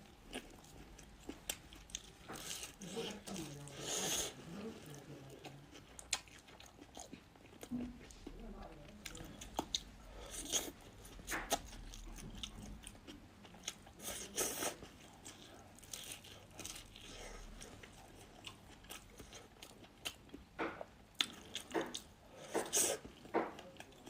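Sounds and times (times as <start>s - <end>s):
person chewing food with crunching: 0.0s - 24.0s.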